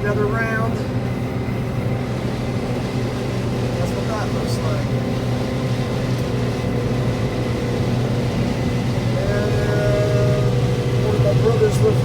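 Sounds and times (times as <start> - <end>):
combine harvester droning: 0.0 - 12.0
faint high whine: 0.0 - 12.0.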